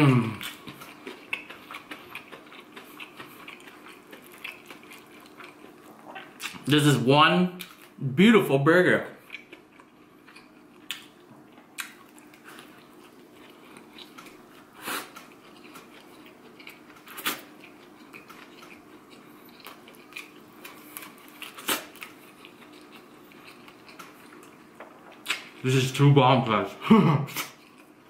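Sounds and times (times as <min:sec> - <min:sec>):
person chewing food: 0:00.0 - 0:06.7, 0:09.2 - 0:25.6, 0:27.3 - 0:28.0.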